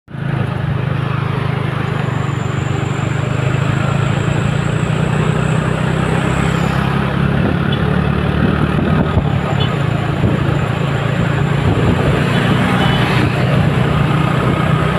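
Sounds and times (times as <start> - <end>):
road noise: 0.1 - 14.9
vehicle engine drone: 0.1 - 14.9.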